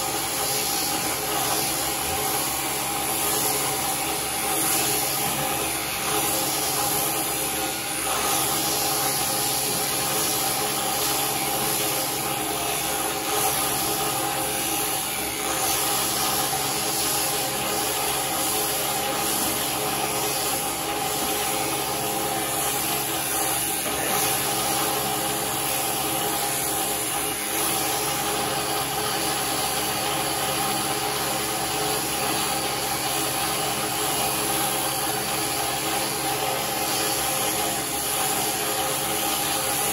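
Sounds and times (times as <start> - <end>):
electric sheep shears humming: 0.0 - 39.9.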